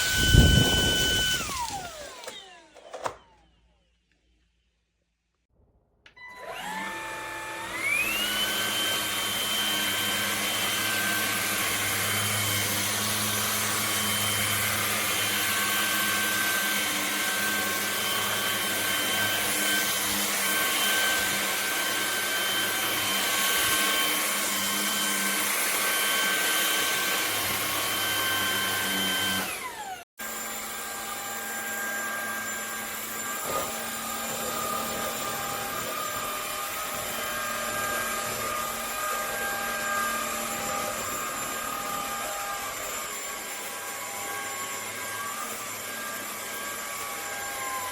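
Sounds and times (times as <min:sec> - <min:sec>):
vacuum motor whining: 0:00.0 - 0:04.1, 0:06.2 - 0:47.9.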